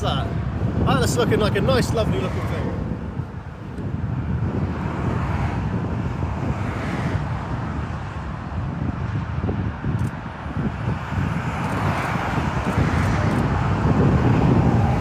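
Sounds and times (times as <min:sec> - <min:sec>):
motorway traffic rumble: 0:00.0 - 0:15.0
wind on microphone: 0:00.0 - 0:15.0.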